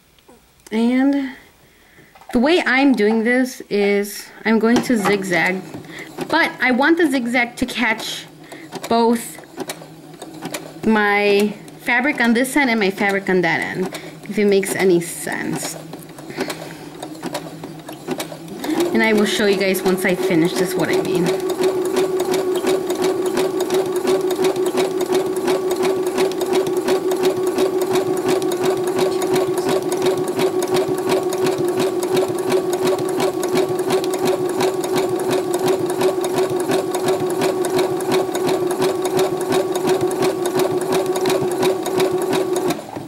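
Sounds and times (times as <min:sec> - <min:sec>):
sewing machine running: 0:04.9 - 0:43.0.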